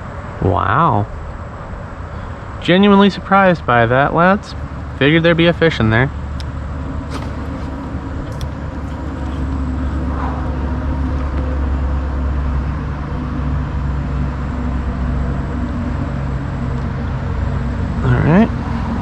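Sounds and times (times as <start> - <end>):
low motor hum: 1.9 - 17.8.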